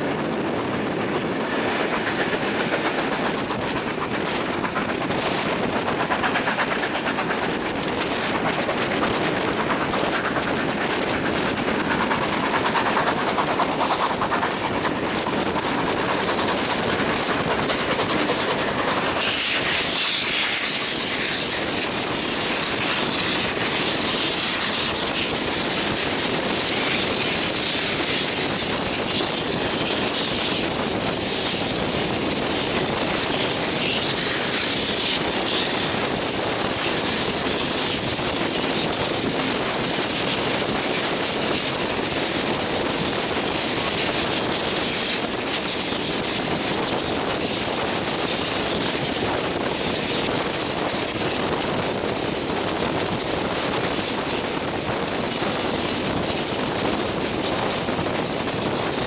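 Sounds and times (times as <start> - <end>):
train wheel and running noise: 0.0 - 59.0
wind buffeting microphone: 0.0 - 59.0.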